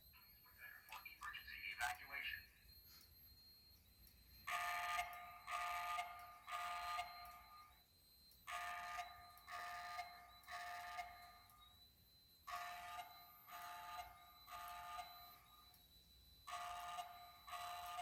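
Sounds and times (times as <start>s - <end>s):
fire alarm beeps: 0.0s - 18.0s.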